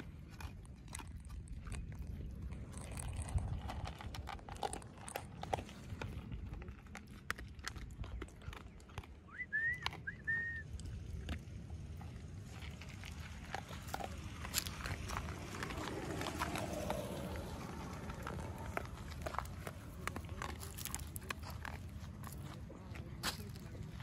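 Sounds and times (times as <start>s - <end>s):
dog crunching dry kibble: 0.0s - 24.0s.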